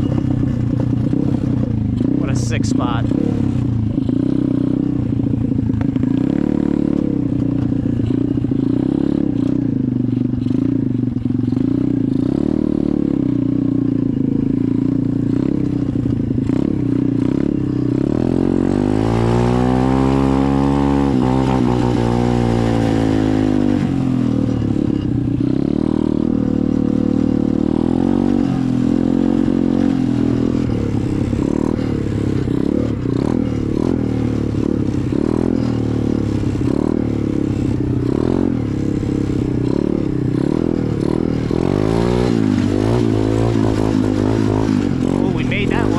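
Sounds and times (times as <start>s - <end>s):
pit bike engine revving: 0.0s - 45.9s.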